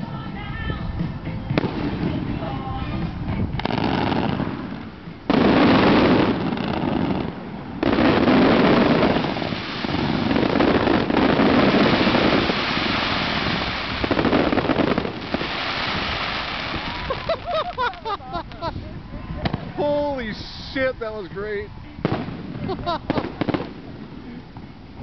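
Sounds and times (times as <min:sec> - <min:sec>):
fireworks barrage crackling: 0:01.4 - 0:25.0.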